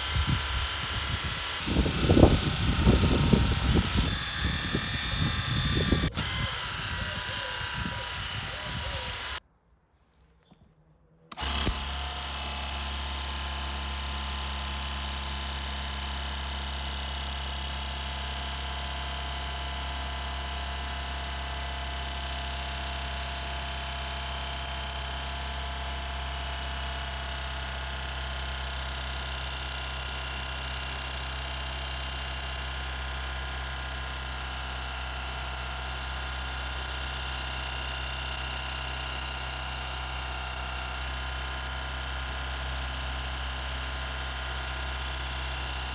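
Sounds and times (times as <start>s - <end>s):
pressure washer pump motor humming: 0.0s - 9.4s, 11.3s - 45.9s.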